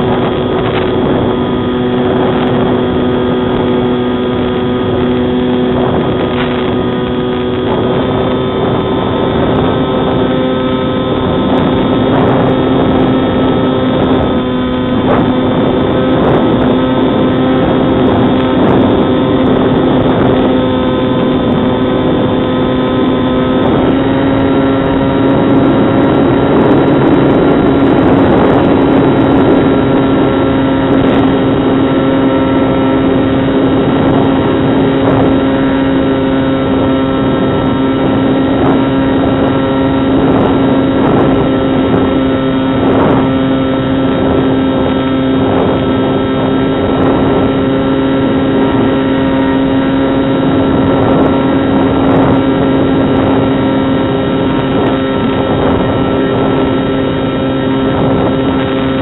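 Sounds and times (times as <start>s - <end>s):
electric motor and propeller hum: 0.0s - 59.0s
wind noise on microphone: 0.0s - 59.0s.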